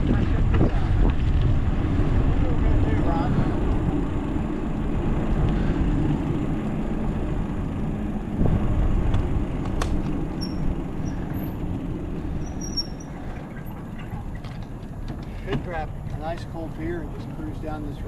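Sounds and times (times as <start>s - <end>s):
bicycle tyre rumble: 0.0s - 18.0s
wind rushing over microphone: 0.0s - 18.0s.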